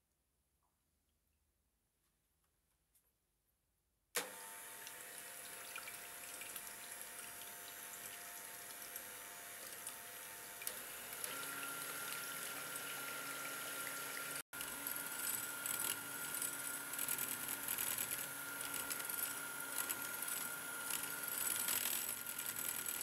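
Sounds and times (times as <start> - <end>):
electric hand mixer whining: 4.2 - 23.0.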